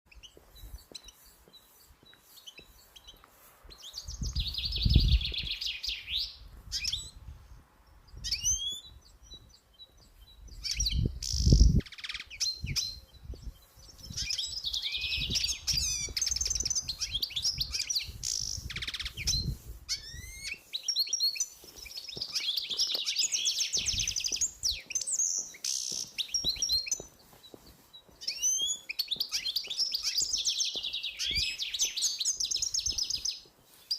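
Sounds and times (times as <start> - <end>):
songbirds trilling: 0.1 - 33.9.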